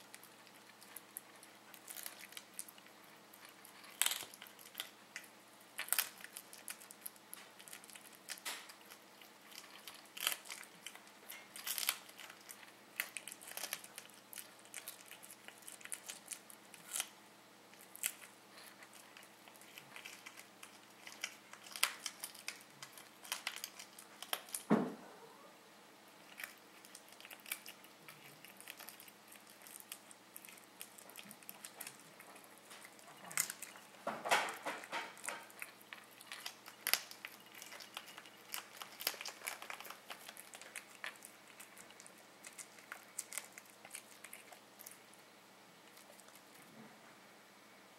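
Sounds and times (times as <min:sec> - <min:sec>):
cat chewing and crunching: 0:00.0 - 0:24.7, 0:25.9 - 0:47.0.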